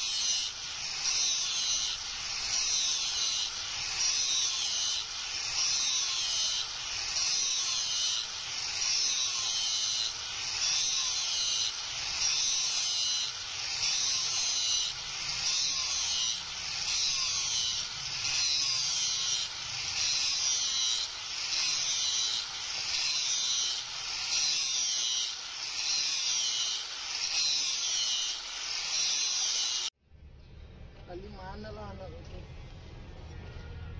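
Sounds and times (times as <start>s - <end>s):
angle grinder grinding steel: 0.0s - 29.9s.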